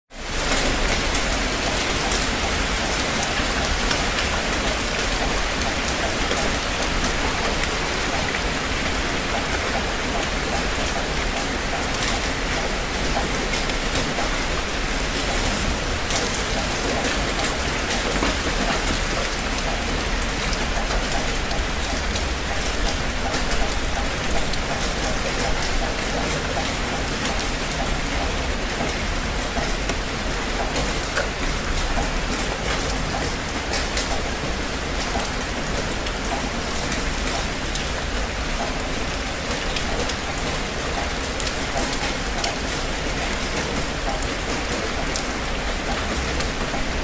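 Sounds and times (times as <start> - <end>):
heavy rain falling: 0.1 - 47.0.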